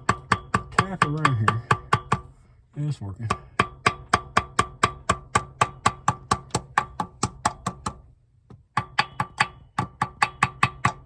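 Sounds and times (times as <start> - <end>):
hammer tapping on gasket: 0.0 - 2.4, 3.2 - 11.0.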